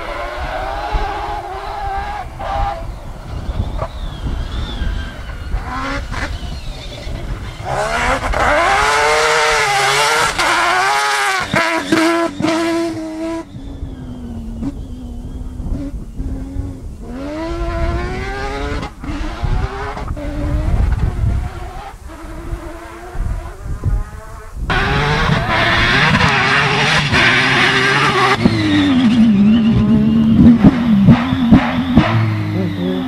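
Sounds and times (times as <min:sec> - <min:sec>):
rally car engine revving past: 0:05.2 - 0:14.8, 0:15.6 - 0:33.0.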